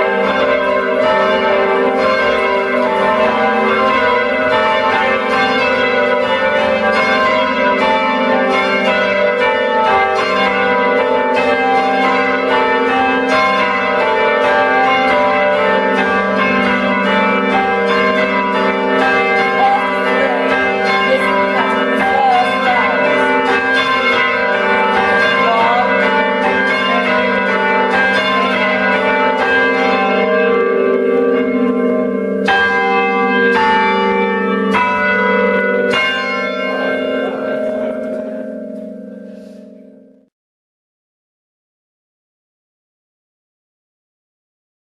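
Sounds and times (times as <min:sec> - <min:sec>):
church bells ringing: 0:00.0 - 0:40.3.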